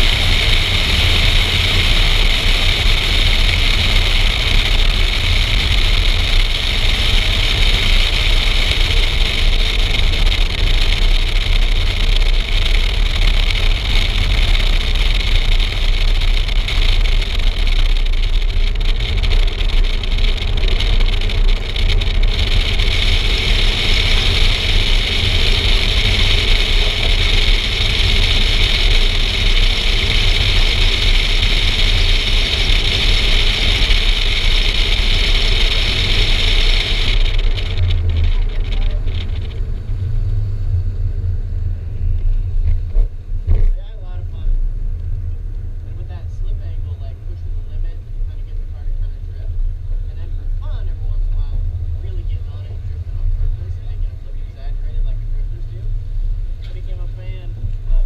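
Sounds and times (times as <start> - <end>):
car engine and road noise: 0.0 - 58.0
wind rumble on microphone: 0.0 - 58.0.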